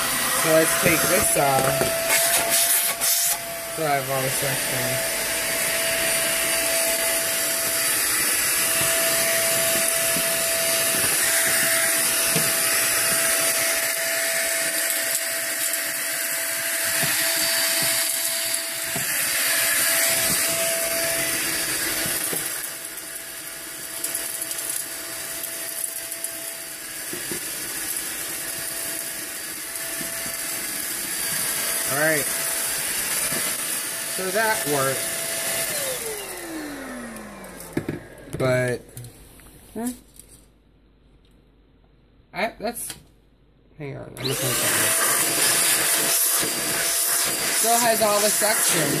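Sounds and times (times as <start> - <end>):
handheld vacuum running: 0.0 - 38.8, 44.2 - 49.0.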